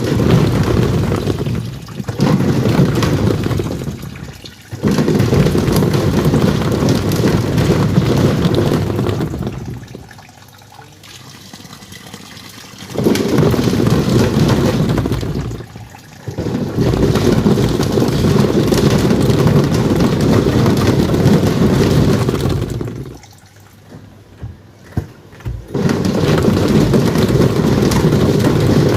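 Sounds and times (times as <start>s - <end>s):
washing machine churning water: 0.0s - 28.9s.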